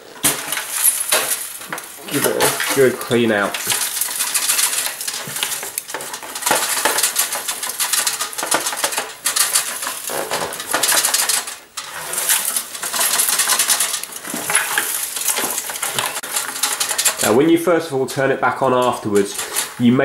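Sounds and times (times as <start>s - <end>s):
toaster rattling when shaken: 0.1s - 20.0s.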